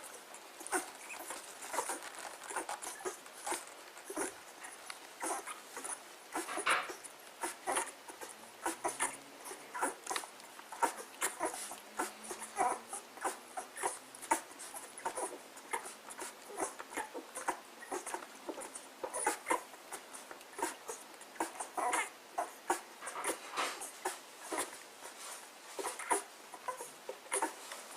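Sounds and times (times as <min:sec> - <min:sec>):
dogs chewing and lapping food: 0:00.0 - 0:27.9.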